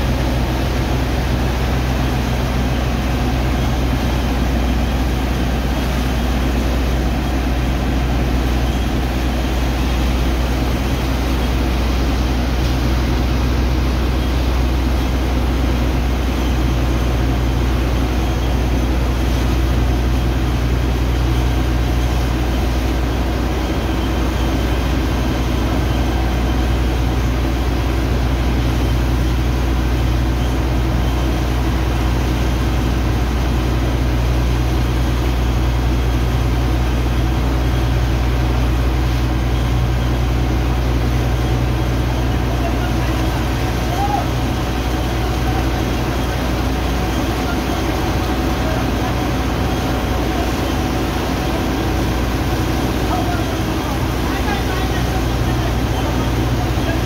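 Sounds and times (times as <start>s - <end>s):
pump engines droning: 0.0s - 57.0s.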